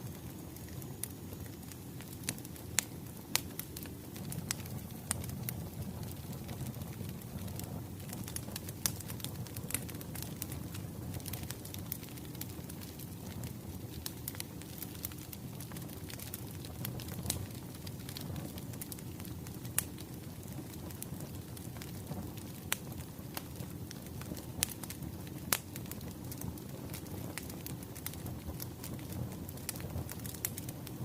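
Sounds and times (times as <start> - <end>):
burning logs popping: 0.0 - 31.0
flames rumbling: 0.0 - 31.0.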